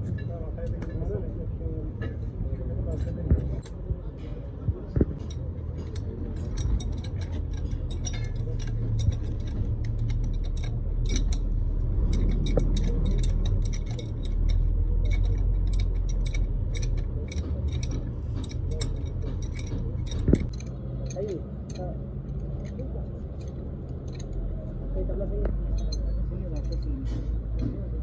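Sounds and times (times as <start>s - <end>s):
light metallic clinks: 5.1s - 28.0s.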